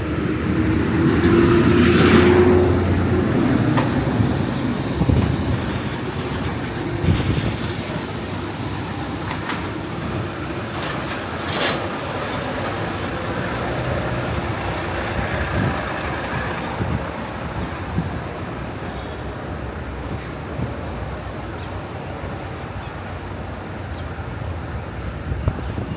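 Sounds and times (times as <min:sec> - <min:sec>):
heavy vehicle engine rumble: 0:00.0 - 0:25.9.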